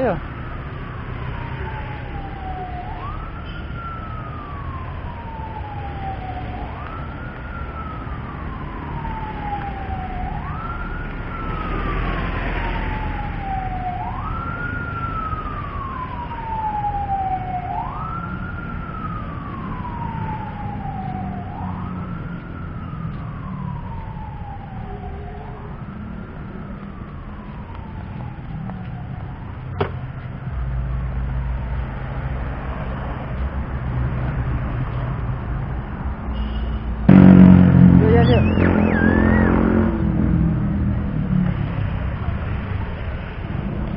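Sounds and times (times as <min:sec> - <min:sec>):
siren wailing: 0:00.0 - 0:30.6, 0:37.1 - 0:43.9.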